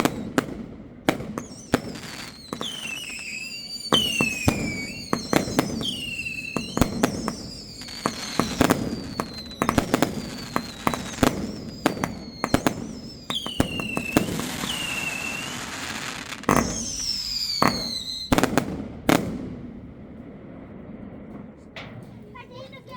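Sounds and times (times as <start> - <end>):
firework whistling: 0.0 - 19.7
firework bangs: 0.0 - 22.9.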